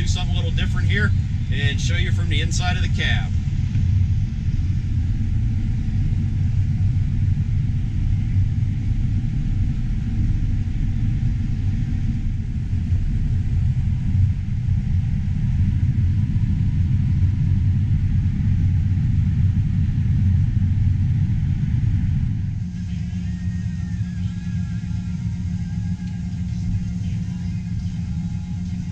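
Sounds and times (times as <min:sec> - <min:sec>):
combine harvester engine rumble: 0:00.0 - 0:28.9.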